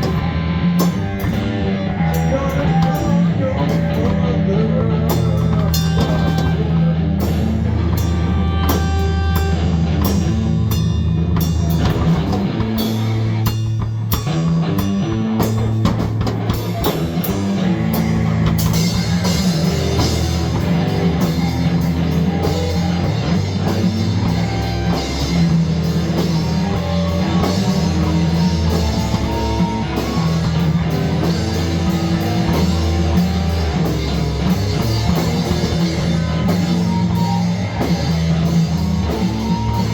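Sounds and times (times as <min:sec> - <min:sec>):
loud rock music: 0:00.0 - 0:39.9.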